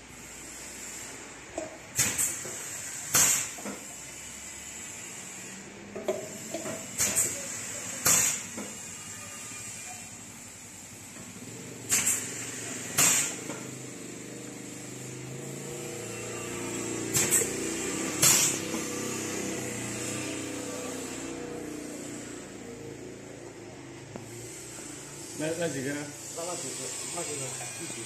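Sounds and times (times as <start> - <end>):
compressed-air hisses: 0.0 - 23.4, 24.0 - 28.0.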